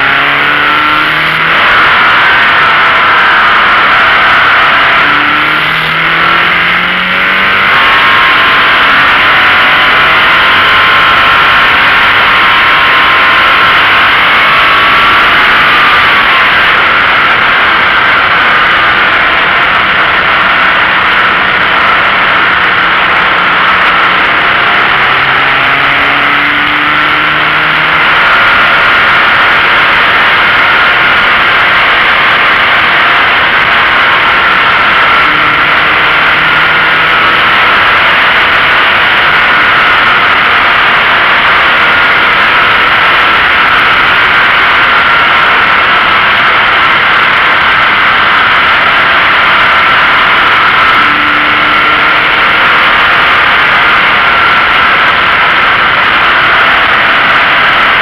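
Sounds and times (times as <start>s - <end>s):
wind and tyre noise: 0.0s - 58.0s.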